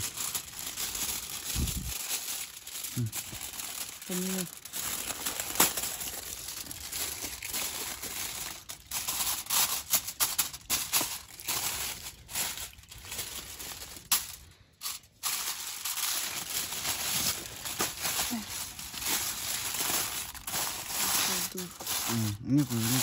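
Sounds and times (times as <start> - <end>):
aluminium foil crinkling: 0.0 - 23.0.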